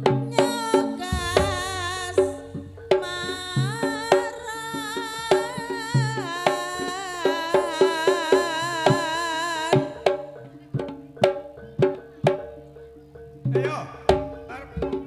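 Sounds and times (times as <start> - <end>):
high wavering lead melody: 0.0 - 13.4
hand drum strokes: 0.0 - 15.0
pitched struck percussion: 0.0 - 15.0.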